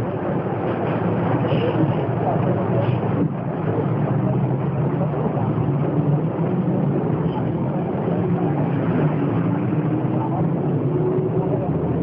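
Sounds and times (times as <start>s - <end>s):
diesel bus engine droning: 0.0s - 12.0s.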